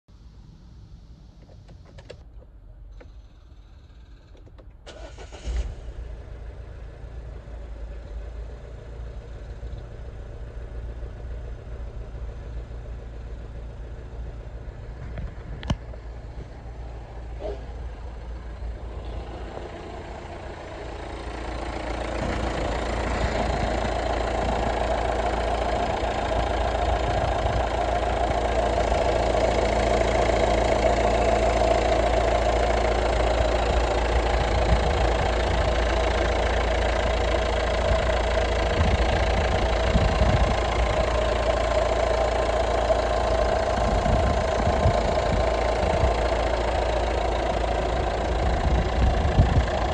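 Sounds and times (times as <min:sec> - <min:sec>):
car engine starting and idling: 0:00.2 - 0:49.9.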